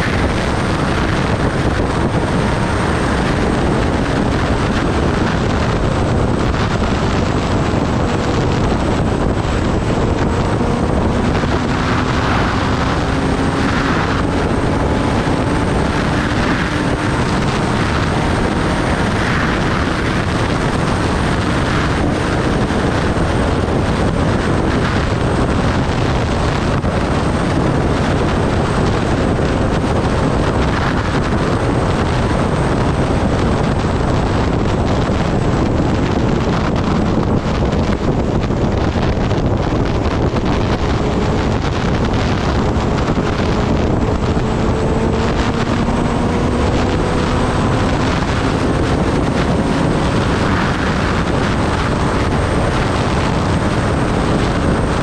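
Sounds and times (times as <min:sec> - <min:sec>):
motorcycle engine: 0:00.0 - 0:55.0
wind roar over microphone: 0:00.0 - 0:55.0.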